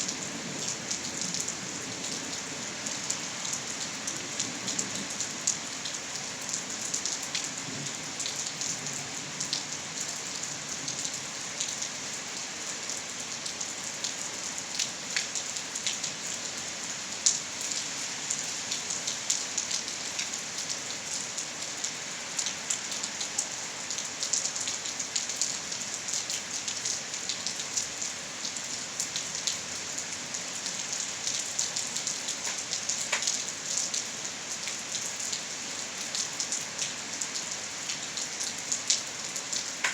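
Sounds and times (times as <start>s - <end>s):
raindrops hitting close by: 0.0s - 39.9s
steady rain hiss: 0.0s - 39.9s.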